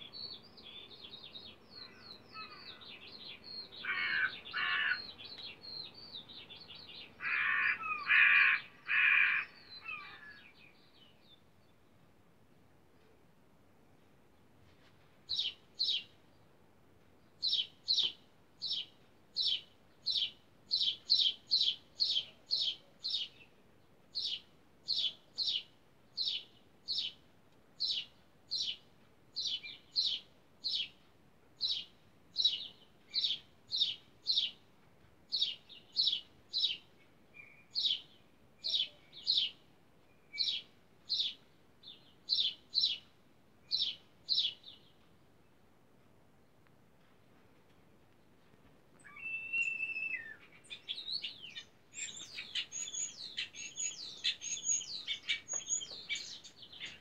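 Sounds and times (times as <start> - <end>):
bird chirping: 0.0 - 8.2, 15.3 - 16.4, 17.2 - 34.7, 35.3 - 45.6, 48.3 - 57.0.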